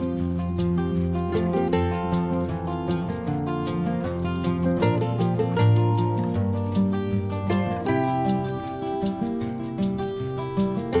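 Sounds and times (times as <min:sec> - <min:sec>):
low bass: 0:00.0 - 0:11.0
plucked string instrument: 0:00.0 - 0:11.0.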